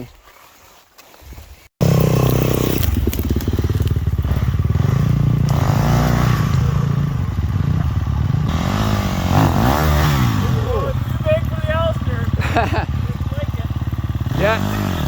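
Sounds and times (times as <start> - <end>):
dirt bike engine revving: 1.8 - 15.0.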